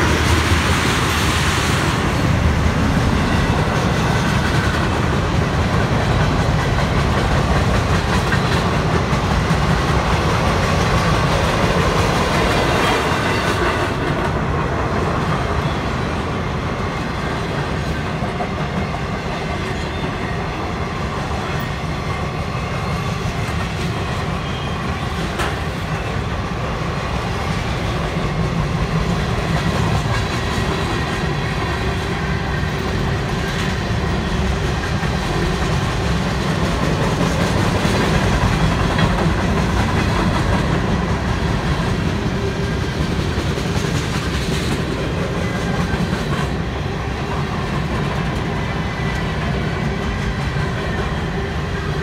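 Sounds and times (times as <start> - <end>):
wheels clacking over rail joints: 0.0 - 15.8, 23.1 - 52.0
freight train wheels rumbling: 0.0 - 52.0.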